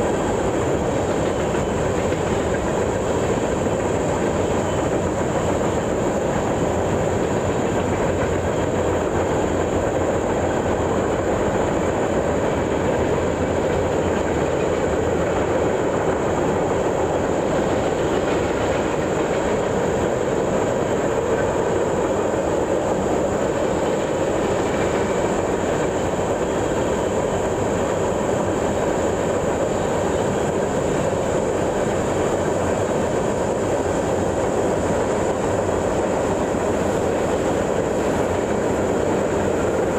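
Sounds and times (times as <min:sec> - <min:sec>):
train cars rolling on rails: 0:00.0 - 0:39.9.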